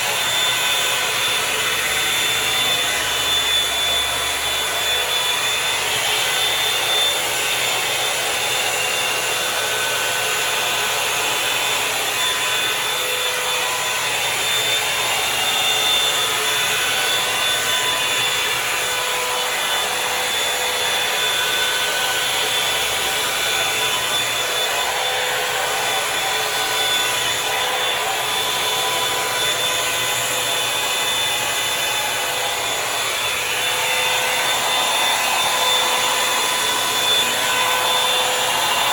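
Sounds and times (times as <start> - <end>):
hot-air brush blowing: 0.0 - 38.9.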